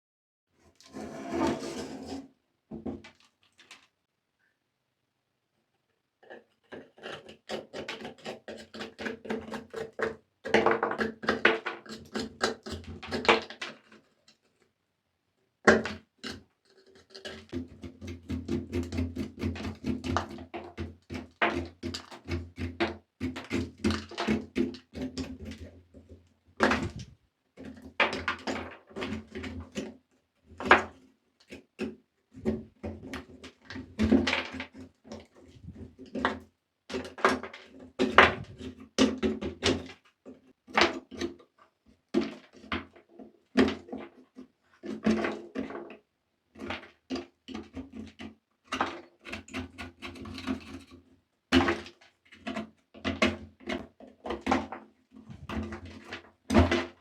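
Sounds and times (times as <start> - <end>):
scrapes and taps on toy motorcycle: 0.7 - 4.0, 5.9 - 14.7, 15.7 - 57.0.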